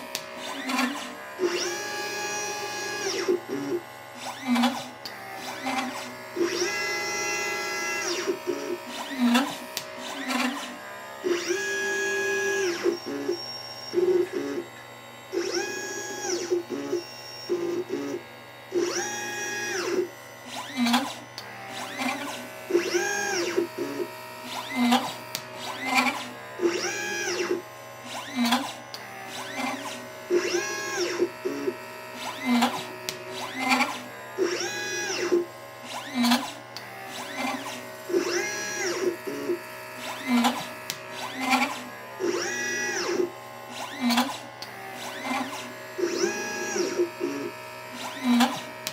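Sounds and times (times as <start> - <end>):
stepper motors whining: 0.0 - 48.9.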